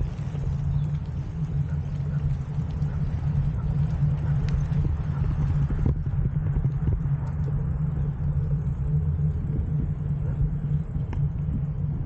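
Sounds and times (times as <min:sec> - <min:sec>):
bicycle tyres rolling: 0:00.0 - 0:12.0
wind rumbling on microphone: 0:00.0 - 0:12.0.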